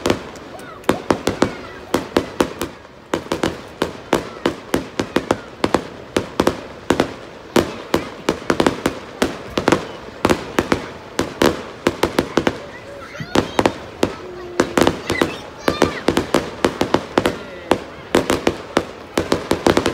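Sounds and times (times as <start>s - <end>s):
fireworks bursting: 0.0s - 19.9s.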